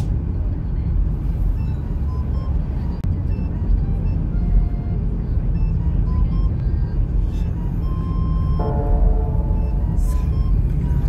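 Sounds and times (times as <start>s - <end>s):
engine and tyres rumbling: 0.0s - 11.0s
light background music: 1.1s - 11.0s.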